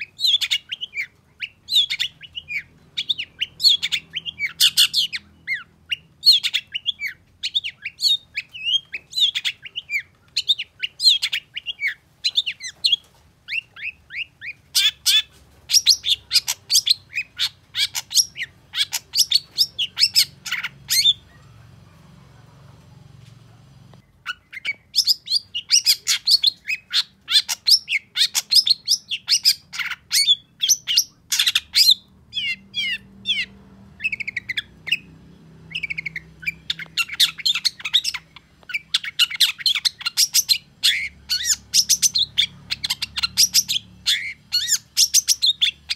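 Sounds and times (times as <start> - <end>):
bird singing high chirps: 0.0 - 21.8, 24.0 - 45.9.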